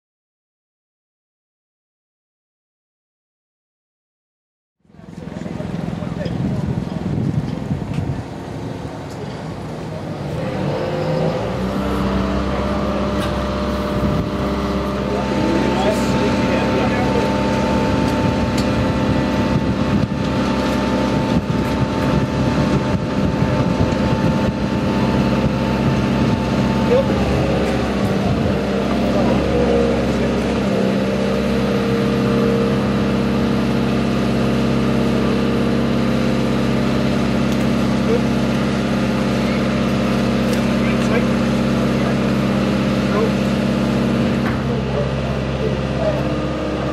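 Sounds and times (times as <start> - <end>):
engine running: 4.8 - 46.9.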